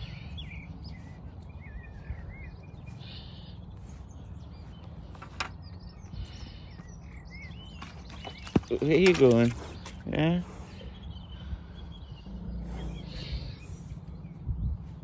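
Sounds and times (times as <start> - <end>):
wind rumbling on microphone: 0.0 - 3.0, 3.6 - 15.0
small birds chirping and singing: 0.0 - 15.0.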